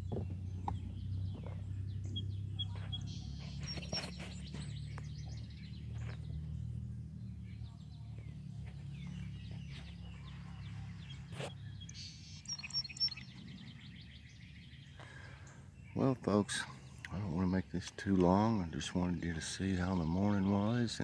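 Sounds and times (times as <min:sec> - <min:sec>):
songbirds chirping and singing: 0:00.0 - 0:21.0.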